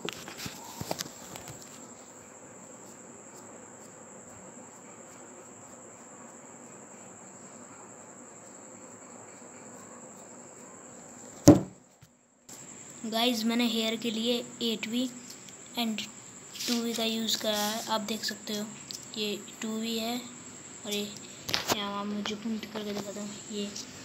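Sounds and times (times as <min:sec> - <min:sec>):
cricket trill: 0:00.0 - 0:24.0
faint room hiss: 0:00.0 - 0:24.0.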